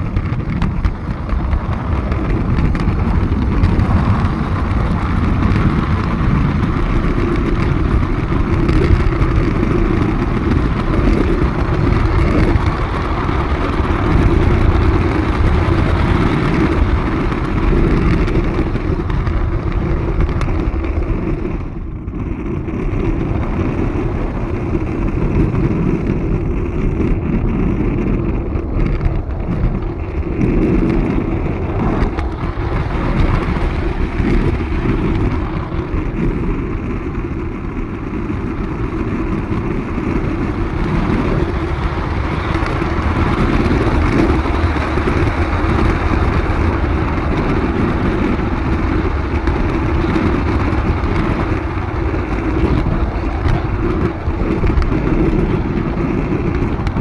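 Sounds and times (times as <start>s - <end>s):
model train rumbling on rails: 0.0s - 57.0s.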